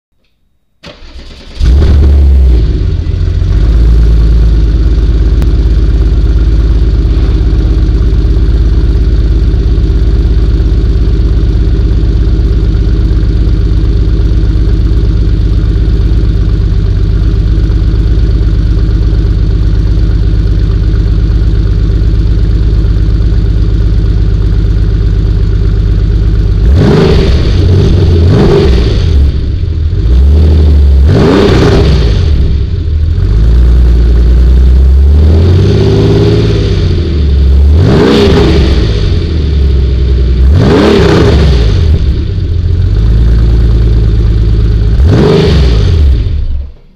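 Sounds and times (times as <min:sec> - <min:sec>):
car engine idling and revving: 0:00.8 - 0:46.9.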